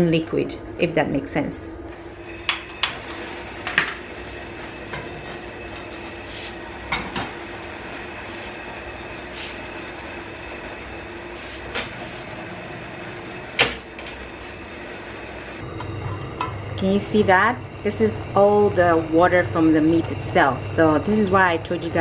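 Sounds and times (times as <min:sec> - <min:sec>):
steady background hum: 0:00.0 - 0:22.0
faint high whine: 0:01.5 - 0:22.0.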